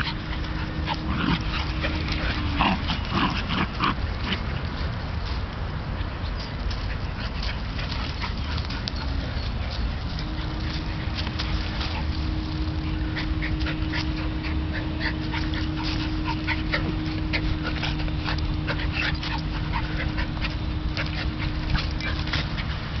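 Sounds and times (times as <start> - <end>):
dogs play-fighting noises: 0.0 - 23.0.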